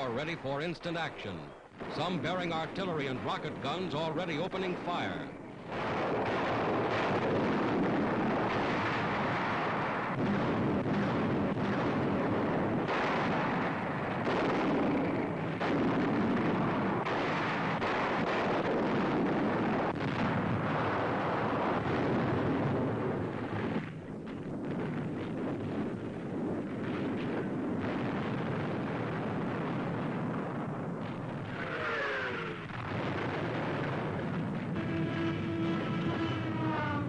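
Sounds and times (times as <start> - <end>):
artillery and rocket explosions: 0.0 - 37.0.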